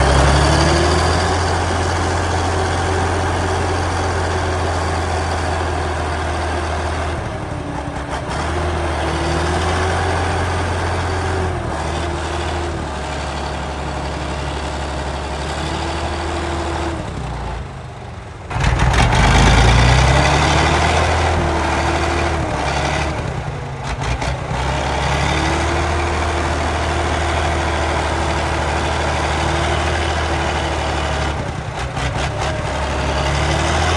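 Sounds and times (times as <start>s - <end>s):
truck engine running and revving: 0.0s - 33.9s.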